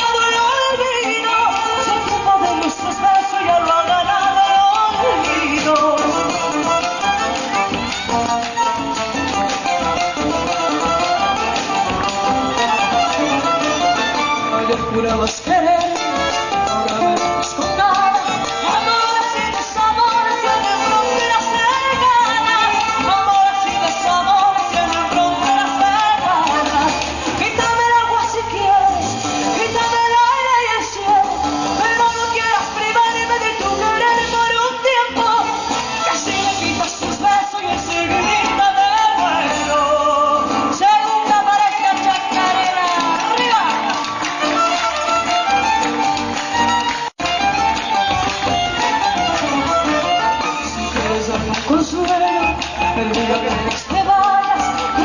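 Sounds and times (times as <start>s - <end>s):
folk music with violin melody: 0.0s - 55.0s.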